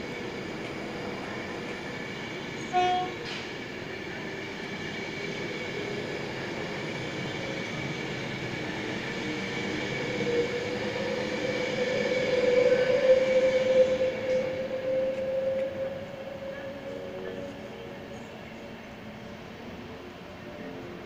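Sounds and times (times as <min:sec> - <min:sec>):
diesel locomotive engine: 0:00.0 - 0:21.0.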